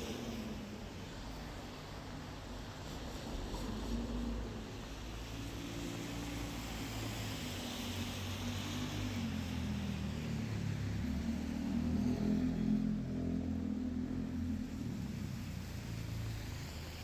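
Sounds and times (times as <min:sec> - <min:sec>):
rain hiss: 0:00.0 - 0:17.0
vehicle engine droning: 0:00.0 - 0:17.0.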